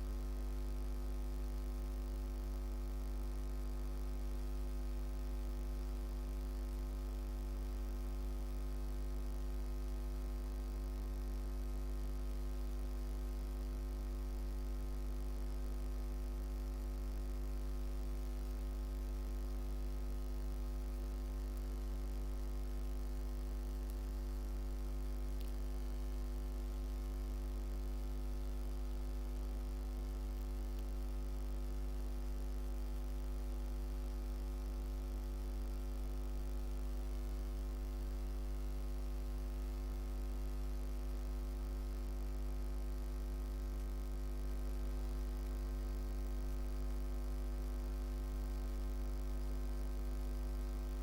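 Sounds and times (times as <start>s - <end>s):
electrical mains hum: 0.0s - 51.0s.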